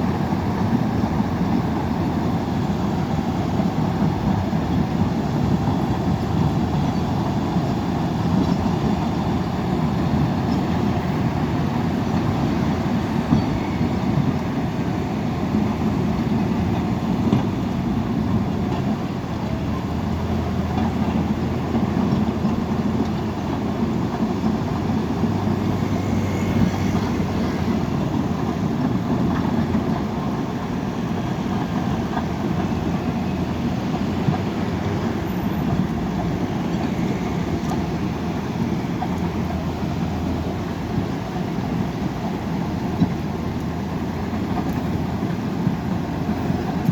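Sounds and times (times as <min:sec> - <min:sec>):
diesel machinery engine drone: 0:00.0 - 0:46.9.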